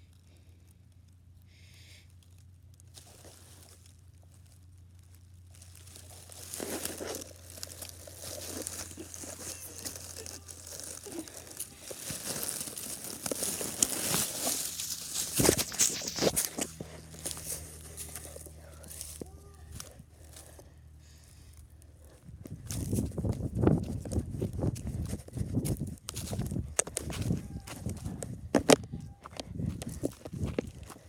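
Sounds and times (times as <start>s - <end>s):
crinkling rustle against microphone: 2.1s - 31.0s.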